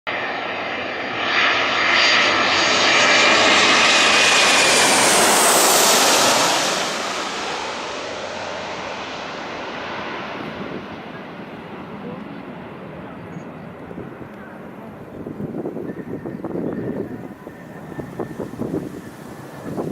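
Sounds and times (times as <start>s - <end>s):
airliner passing low overhead: 0.1s - 19.9s.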